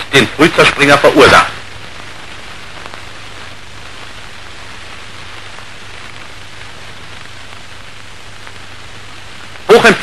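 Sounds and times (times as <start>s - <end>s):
film soundtrack hiss and crackle: 0.0s - 10.0s
low steady hum: 0.0s - 10.0s.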